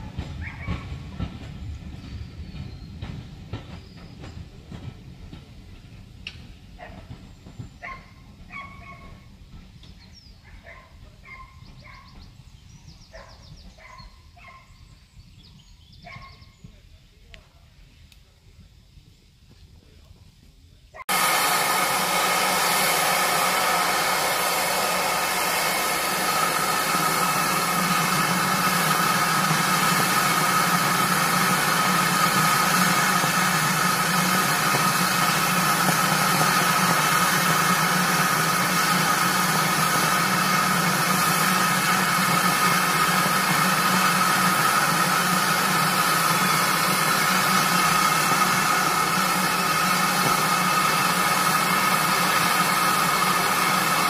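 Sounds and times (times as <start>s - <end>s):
locomotive running: 0.0s - 18.1s, 19.5s - 54.0s.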